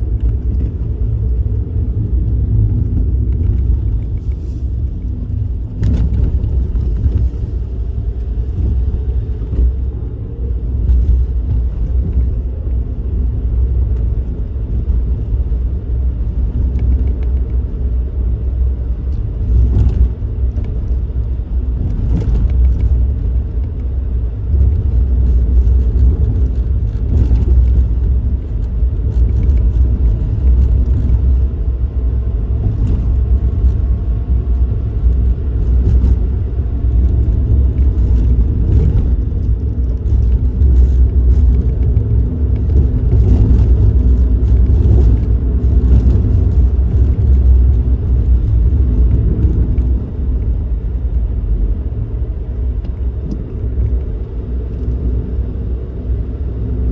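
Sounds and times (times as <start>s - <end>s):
car engine and road noise: 0.0s - 56.9s.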